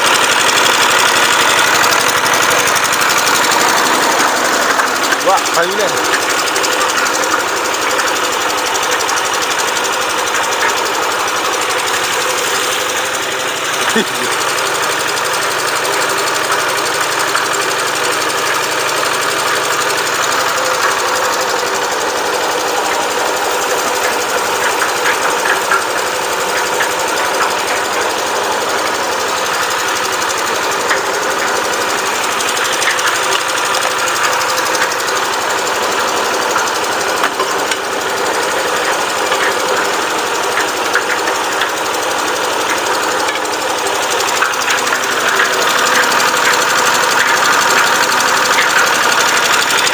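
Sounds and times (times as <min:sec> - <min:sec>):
concrete mixer engine running: 0:00.0 - 0:49.9.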